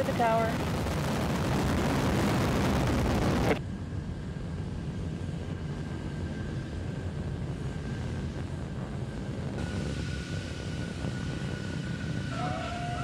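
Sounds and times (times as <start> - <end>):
dull rumble: 0.0 - 13.0
rocket engines rushing roar: 0.0 - 13.0.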